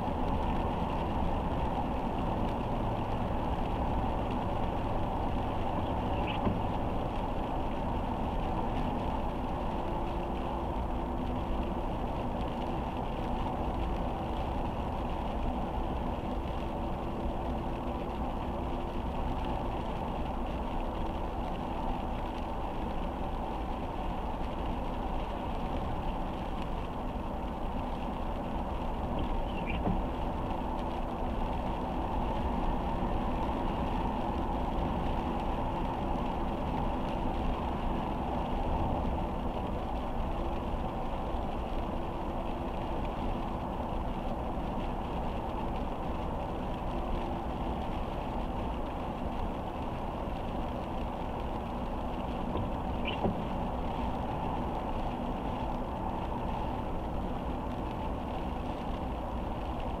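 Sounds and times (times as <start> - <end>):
rain: 0.0 - 60.0
tyres on wet road: 0.0 - 60.0.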